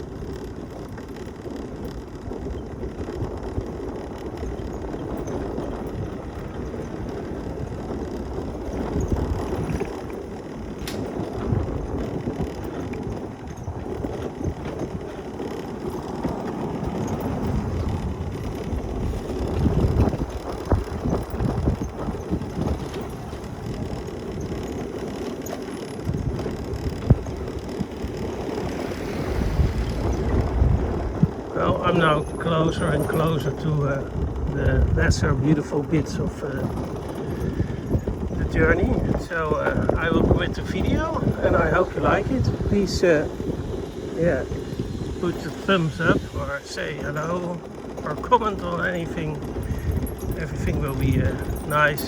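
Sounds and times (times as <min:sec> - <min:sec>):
mobility scooter rumbling: 0:00.0 - 0:52.0.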